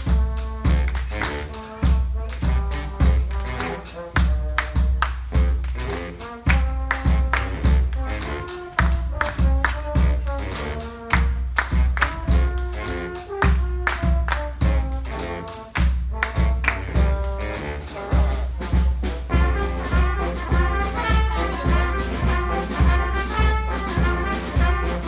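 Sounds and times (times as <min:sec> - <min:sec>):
brass and percussion band playing: 0:00.0 - 0:25.0.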